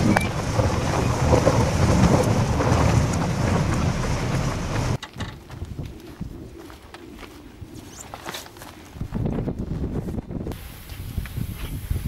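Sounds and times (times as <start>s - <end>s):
vehicle engine and road noise: 0.0s - 10.3s.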